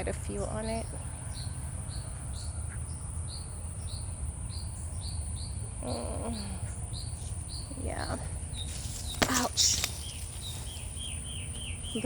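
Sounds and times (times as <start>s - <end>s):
high insect drone: 0.0s - 12.0s
insect chirps: 1.0s - 12.0s.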